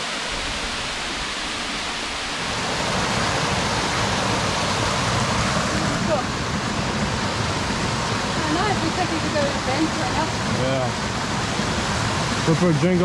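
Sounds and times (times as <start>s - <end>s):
waterfall splashing into pool: 0.0s - 13.0s.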